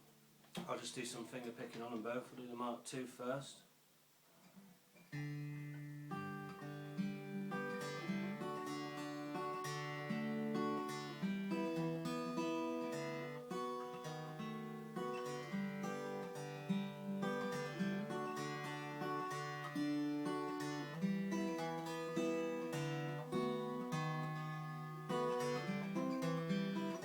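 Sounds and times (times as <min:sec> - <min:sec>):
acoustic guitar fingerpicked: 0:04.4 - 0:27.0.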